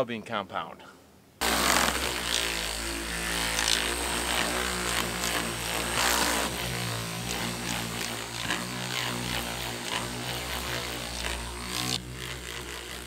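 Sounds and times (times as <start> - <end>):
buffer motor humming: 1.4 - 13.0.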